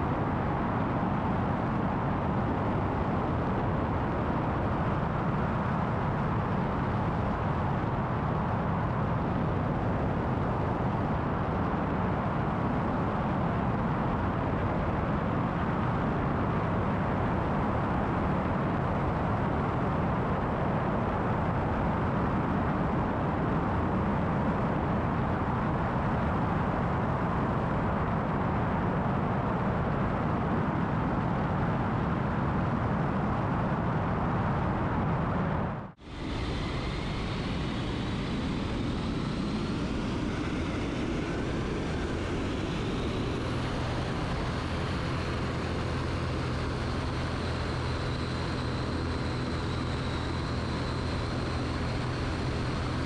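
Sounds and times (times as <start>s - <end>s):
aircraft engine and propeller: 0.0s - 53.0s
wind rushing over microphone: 0.0s - 53.0s.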